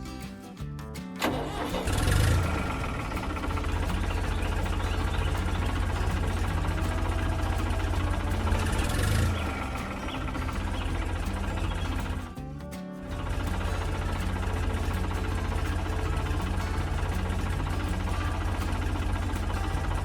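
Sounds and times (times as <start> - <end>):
large engine starting and running: 1.2 - 20.0.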